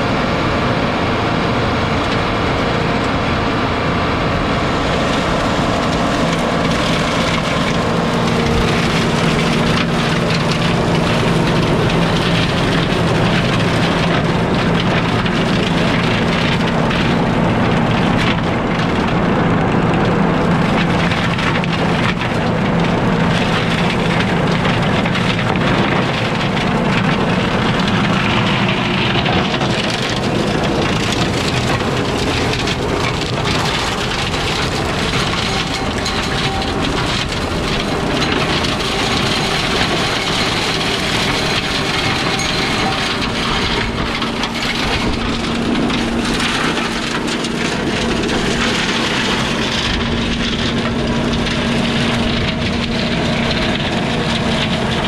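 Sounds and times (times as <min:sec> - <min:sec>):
flail mower shredding wood: 0:00.0 - 0:55.0
tractor engine running: 0:00.0 - 0:55.0
wood cracking and snapping: 0:04.6 - 0:55.0.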